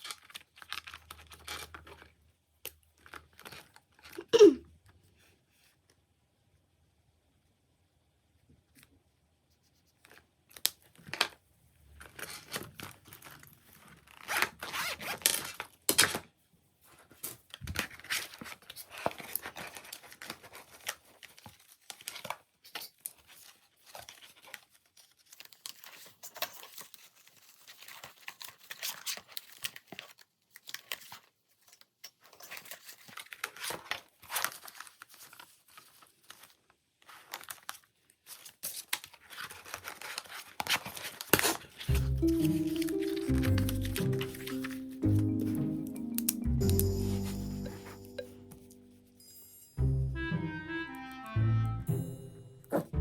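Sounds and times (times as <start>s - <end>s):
paper and plastic rustling: 0.0s - 4.2s, 9.5s - 49.2s.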